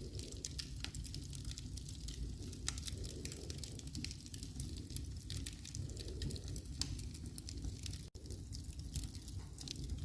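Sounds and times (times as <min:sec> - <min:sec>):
low fire rumble: 0:00.0 - 0:10.0
wood fire crackling and popping: 0:00.0 - 0:10.0.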